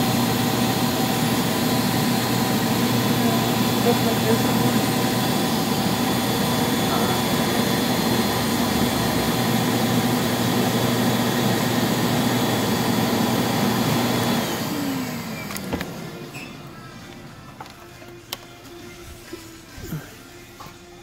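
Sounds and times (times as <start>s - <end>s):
floor scrubber motors humming: 0.0s - 20.6s.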